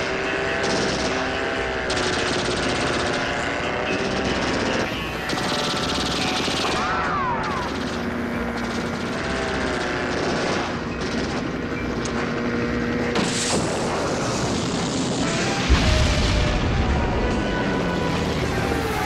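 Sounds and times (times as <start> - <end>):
rapid machine-gun fire: 0.0 - 11.8, 13.0 - 16.8
aircraft engines droning: 0.0 - 19.0
rising and falling whine: 2.5 - 19.0.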